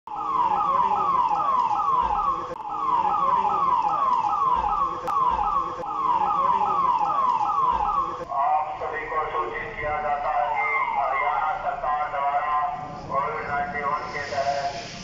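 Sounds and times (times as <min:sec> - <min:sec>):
police siren: 0:00.1 - 0:14.8.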